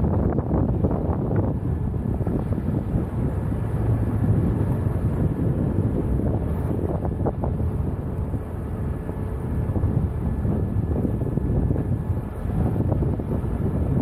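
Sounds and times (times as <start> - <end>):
car engine running: 0.0 - 14.0
wind buffeting microphone: 0.0 - 14.0.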